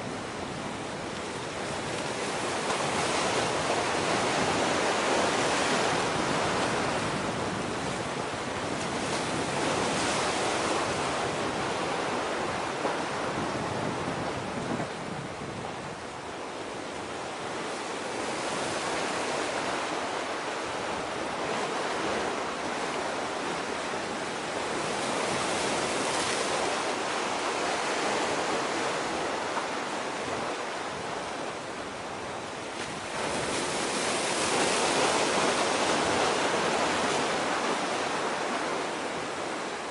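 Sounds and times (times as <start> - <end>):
wind by the sea: 0.0 - 39.9.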